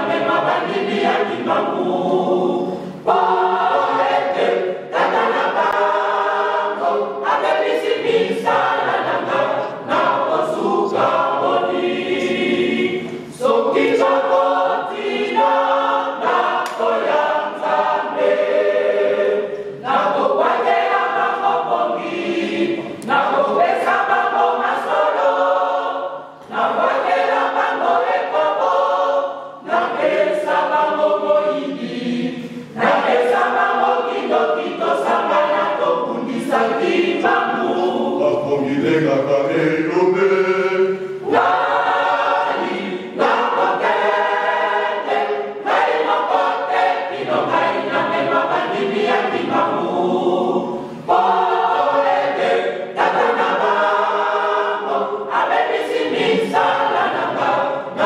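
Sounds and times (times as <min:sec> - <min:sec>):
mixed choir singing a hymn: 0:00.0 - 0:58.0.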